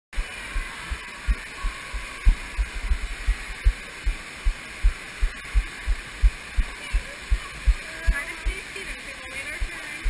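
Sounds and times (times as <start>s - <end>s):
steady background hiss: 0.2s - 10.0s.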